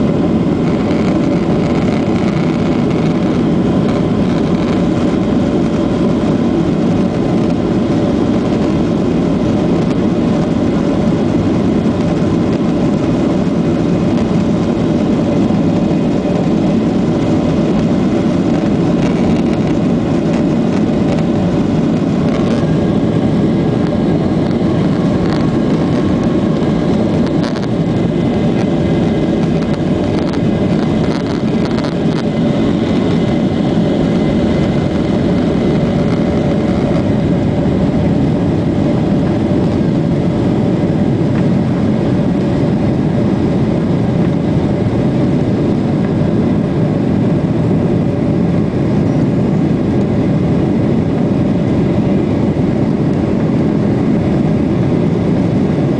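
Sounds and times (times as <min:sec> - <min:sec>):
jet engines roaring in cabin: 0:00.0 - 0:55.9.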